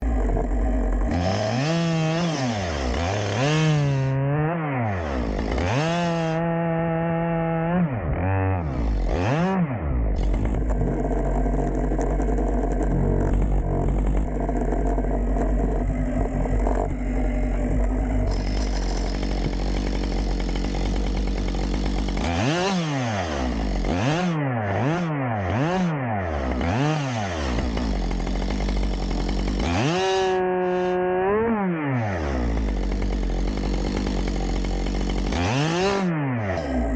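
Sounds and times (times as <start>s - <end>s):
chainsaw cutting and revving: 0.0s - 36.9s.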